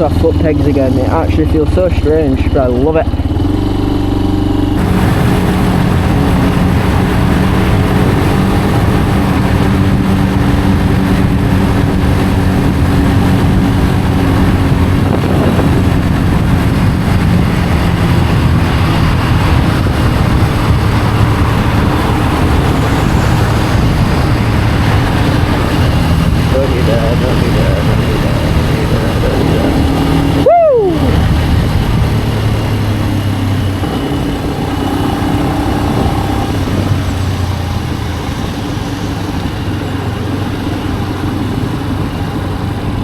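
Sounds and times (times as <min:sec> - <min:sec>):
motorcycle engine running: 0:00.0 - 0:43.0
wind rushing over microphone: 0:00.0 - 0:43.0.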